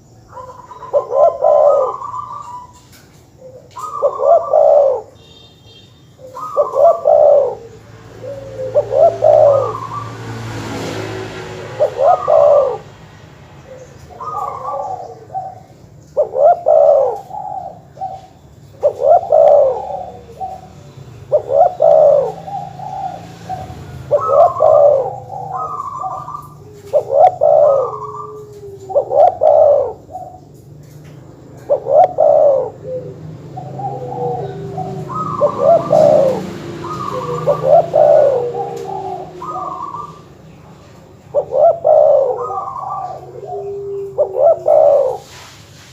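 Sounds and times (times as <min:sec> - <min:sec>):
doves cooing: 0:00.0 - 0:45.8.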